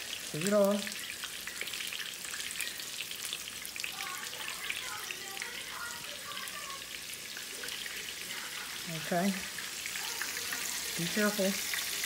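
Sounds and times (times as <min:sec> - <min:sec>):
food frying in hot grease: 0:00.0 - 0:12.0.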